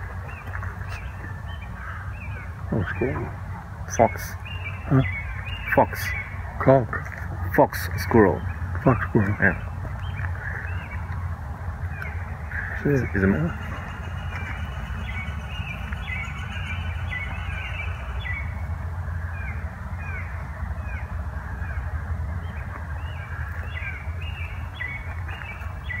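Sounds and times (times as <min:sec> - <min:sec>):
songbirds chirping: 0:00.0 - 0:26.0
steady low rumble: 0:00.0 - 0:26.0.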